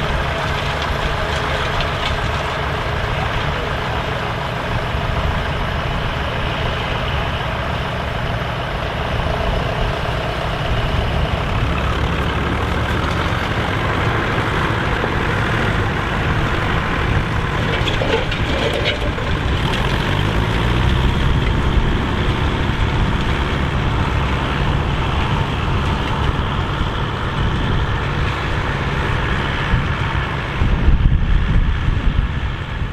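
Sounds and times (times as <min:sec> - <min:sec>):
tractor engines running: 0:00.0 - 0:32.9.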